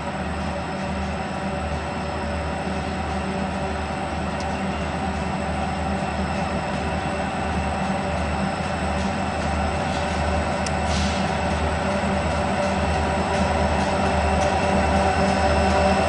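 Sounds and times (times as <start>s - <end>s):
diesel locomotives droning: 0.0s - 16.0s.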